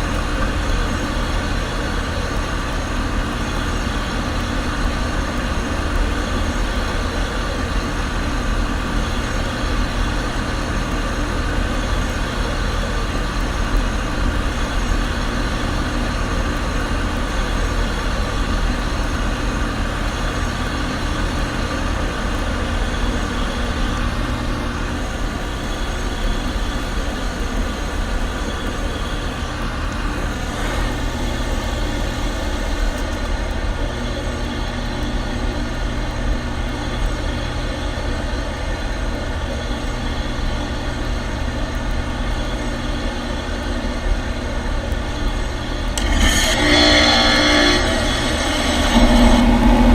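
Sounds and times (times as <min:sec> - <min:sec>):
heat pump humming: 0:00.0 - 0:49.9.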